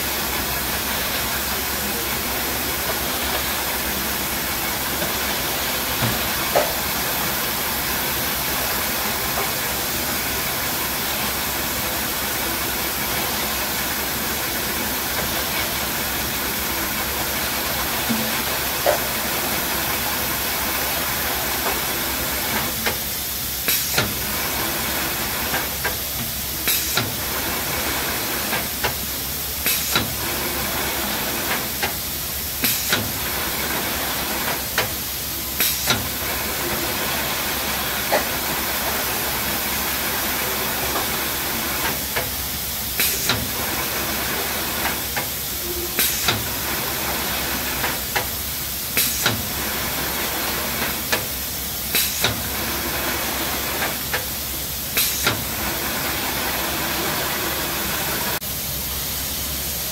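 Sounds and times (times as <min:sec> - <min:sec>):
hissing conveyor machinery: 0:00.0 - 0:59.9.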